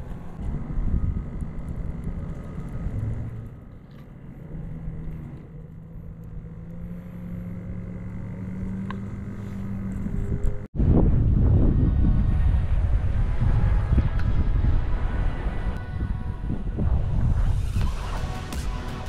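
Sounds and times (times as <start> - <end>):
wind rumbling on microphone: 0.0 - 7.9, 9.2 - 19.0
low engine drone: 0.0 - 19.0.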